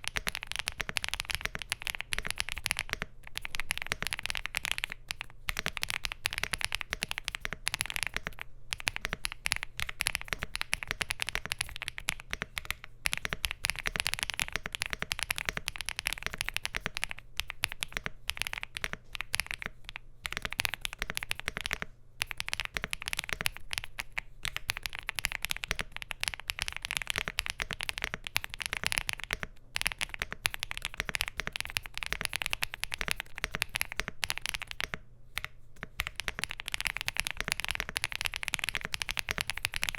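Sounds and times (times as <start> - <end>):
rapid typing on mechanical keyboard: 0.0 - 39.9.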